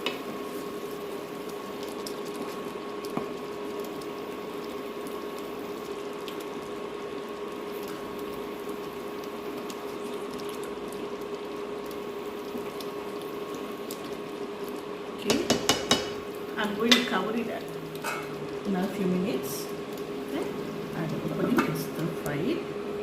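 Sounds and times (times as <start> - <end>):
pot simmering: 0.0 - 23.0
steady hum: 0.0 - 23.0.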